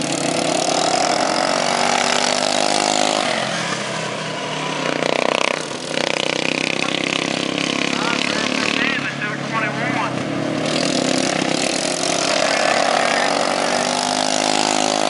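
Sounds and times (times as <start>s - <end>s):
lawn mower engines passing: 0.0s - 15.0s.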